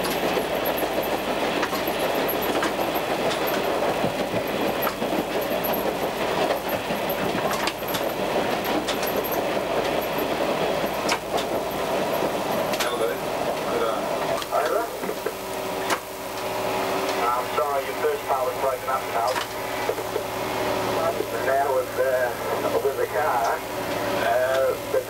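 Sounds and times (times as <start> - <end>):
wheels clacking over rail joints: 0.0 - 20.4, 21.0 - 24.8
railcar wheels and engine rumble: 0.0 - 25.0.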